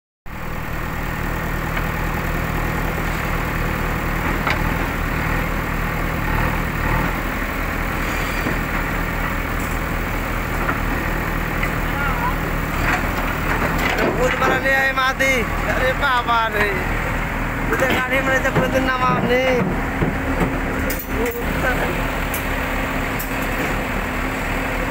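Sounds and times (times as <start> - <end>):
excavator diesel engine running: 0.3 - 24.9.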